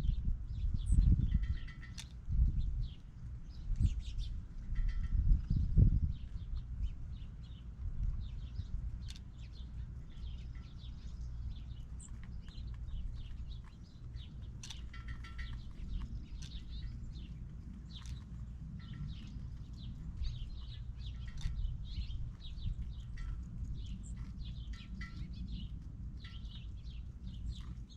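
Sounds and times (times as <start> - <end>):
low rumble: 0.0 - 27.9
small birds chirping: 0.0 - 27.9.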